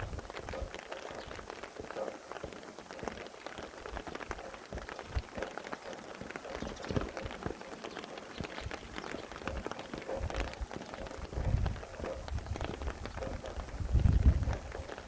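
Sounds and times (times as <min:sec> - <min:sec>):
rain hiss: 0:00.0 - 0:15.0
raindrops striking nearby: 0:00.0 - 0:15.0.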